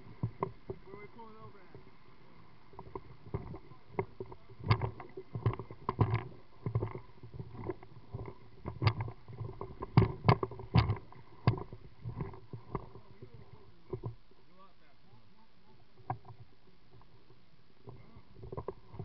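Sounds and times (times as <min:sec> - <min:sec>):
low steady water wash: 0:00.0 - 0:19.0
water splashing against boat: 0:00.0 - 0:19.0.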